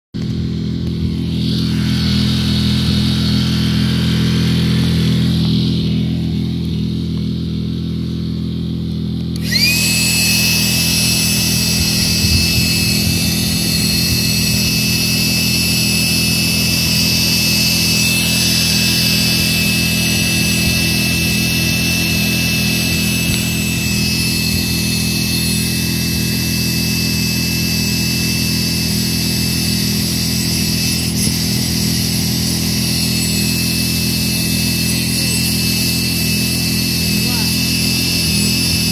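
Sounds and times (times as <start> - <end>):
high motor whine: 0.1 - 38.9
small motor running: 0.2 - 38.9.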